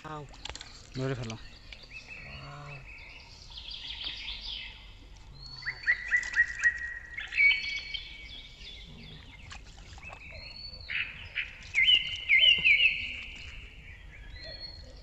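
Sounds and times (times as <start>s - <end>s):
birds singing and chirping: 0.0s - 15.0s.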